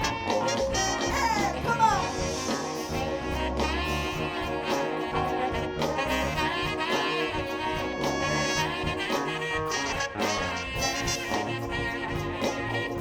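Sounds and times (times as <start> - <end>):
soul horn band playing: 0.0 - 13.0.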